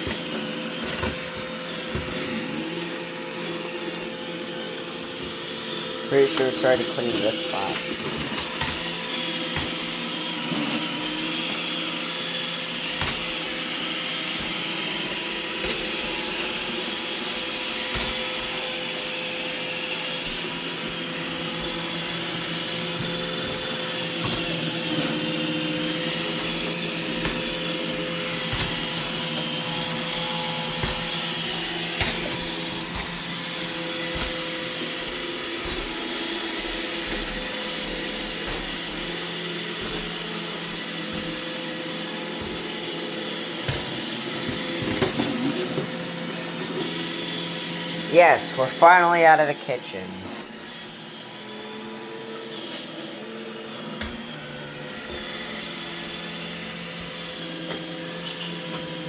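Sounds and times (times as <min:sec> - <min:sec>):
robot vacuum motor whine: 0:00.0 - 0:59.0.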